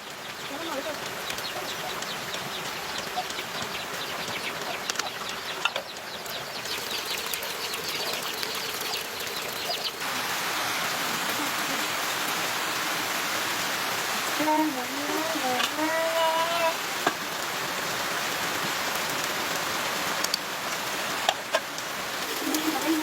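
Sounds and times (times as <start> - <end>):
raindrops ticking: 0.0 - 10.0, 10.9 - 23.0
rain hissing: 0.0 - 23.0.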